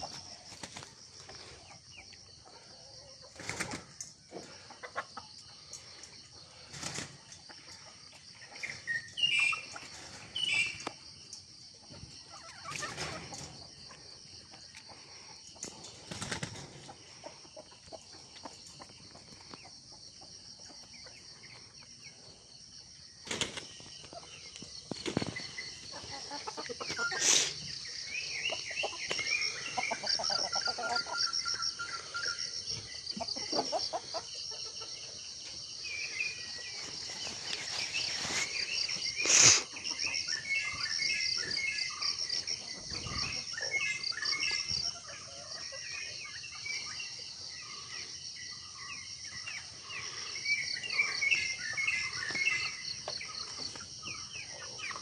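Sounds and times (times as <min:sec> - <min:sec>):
chickens clucking: 0:00.0 - 0:55.0
insects chorus: 0:00.0 - 0:55.0.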